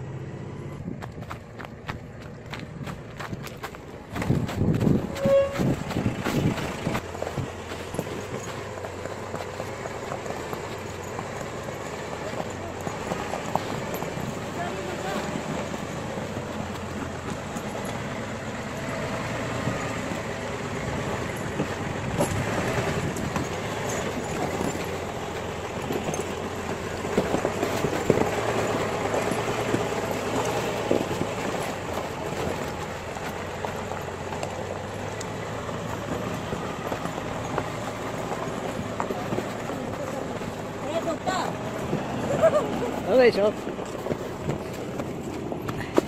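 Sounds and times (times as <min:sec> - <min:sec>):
truck engine under load: 0:00.0 - 0:46.0
tyres churning through mud: 0:00.0 - 0:46.0.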